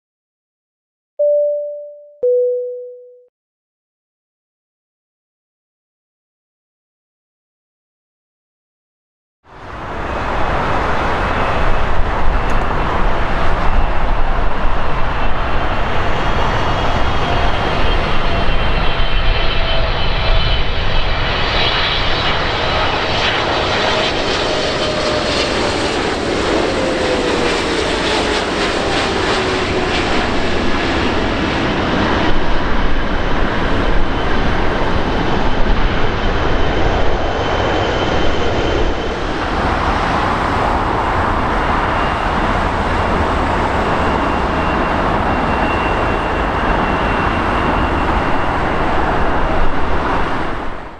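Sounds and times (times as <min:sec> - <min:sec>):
jet engine rumble with whining fan: 0:09.5 - 0:50.9.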